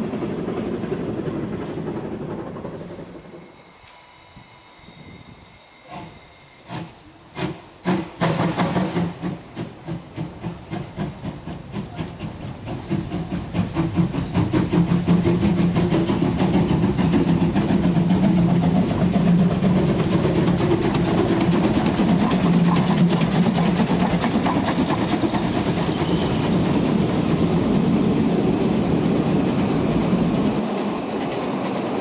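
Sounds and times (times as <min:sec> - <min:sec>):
steam locomotive chuffing: 0:00.0 - 0:32.0
escaping steam hiss: 0:02.6 - 0:32.0.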